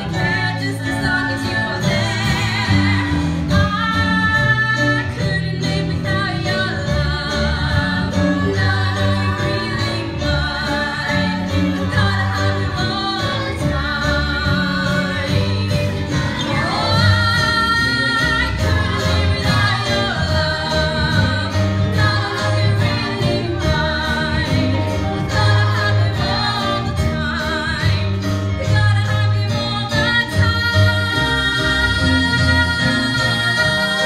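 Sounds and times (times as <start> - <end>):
keyboard and bass accompaniment: 0.0 - 34.0
woman singing with vibrato: 0.0 - 34.0.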